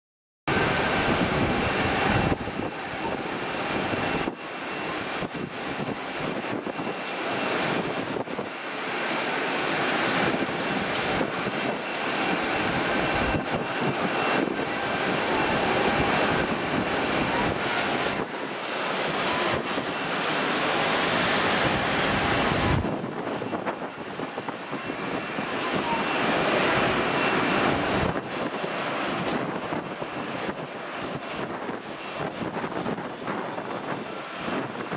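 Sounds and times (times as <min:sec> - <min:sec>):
high jet whine: 0:00.5 - 0:34.9
jet engine roar: 0:00.5 - 0:34.9.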